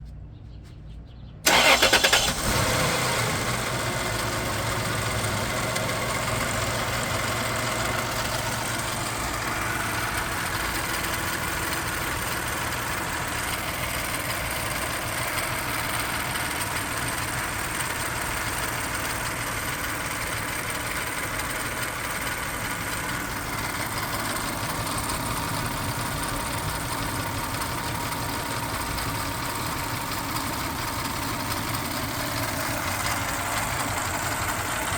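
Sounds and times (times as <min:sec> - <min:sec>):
car engine starting and idling: 0:01.4 - 0:34.9.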